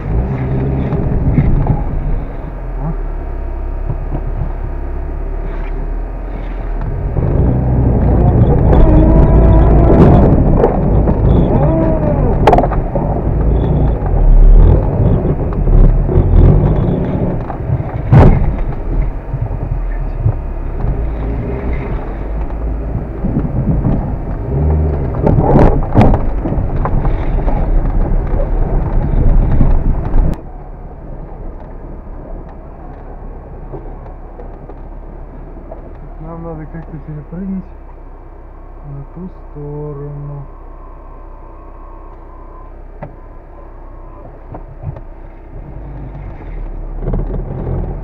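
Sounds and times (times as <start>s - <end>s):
wheels spinning in mud: 0.0s - 3.2s, 3.8s - 37.7s, 41.0s - 48.0s
car engine revving: 0.0s - 48.0s.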